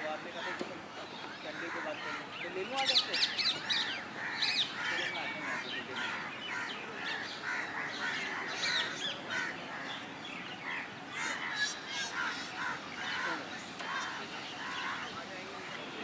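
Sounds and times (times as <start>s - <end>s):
chorus of birds calling: 0.0s - 16.0s.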